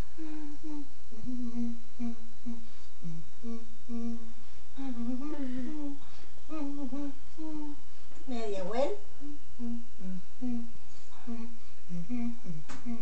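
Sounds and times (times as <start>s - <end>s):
person humming: 0.0s - 13.0s.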